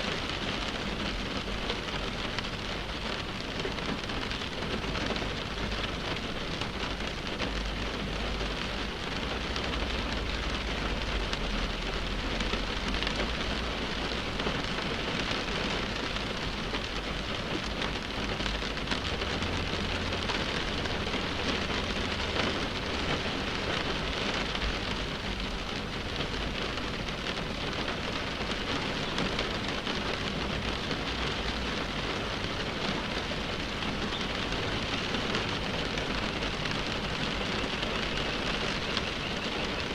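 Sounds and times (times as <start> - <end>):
rain tapping on windshield: 0.0 - 39.9.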